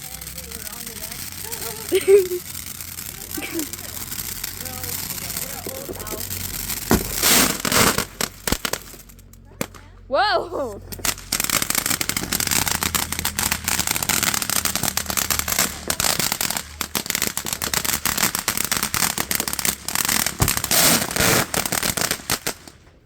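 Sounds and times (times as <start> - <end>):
ground firework crackling: 0.0 - 23.0.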